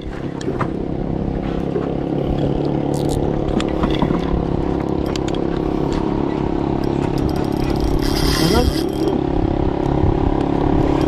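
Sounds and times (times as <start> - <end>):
small boat engine running: 0.0 - 11.0.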